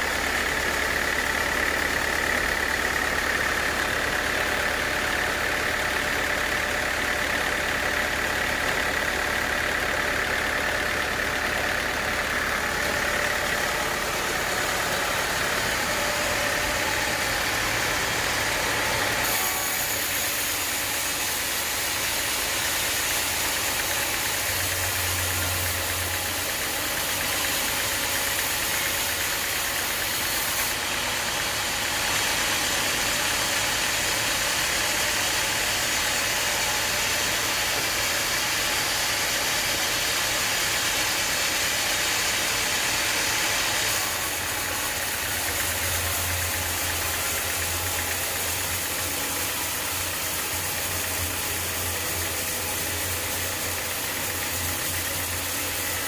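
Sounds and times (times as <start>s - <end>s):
saw blade cutting log: 0.0s - 56.0s
sawmill machinery running: 0.0s - 56.0s.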